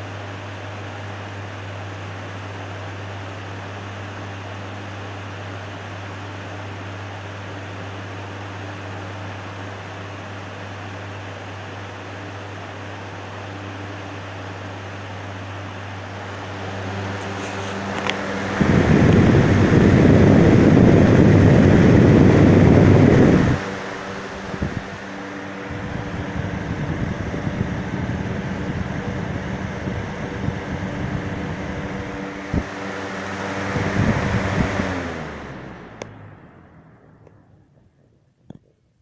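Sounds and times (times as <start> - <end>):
air rushing from fan blades: 0.0 - 37.6
fan motor hum: 0.0 - 39.0.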